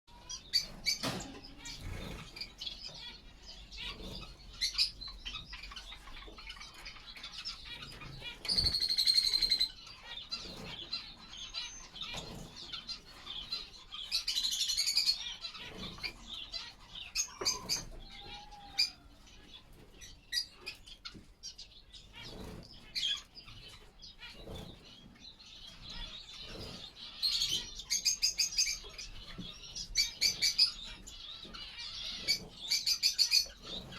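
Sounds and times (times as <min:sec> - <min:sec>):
finches chirping: 0:00.1 - 0:33.9
wings fluttering: 0:00.1 - 0:33.9.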